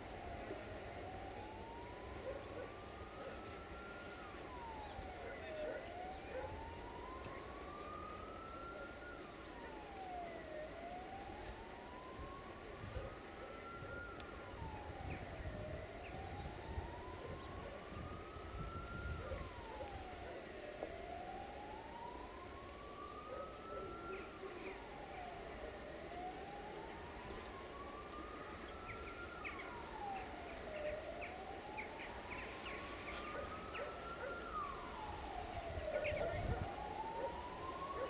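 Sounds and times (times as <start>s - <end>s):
siren wailing: 0.0s - 38.0s.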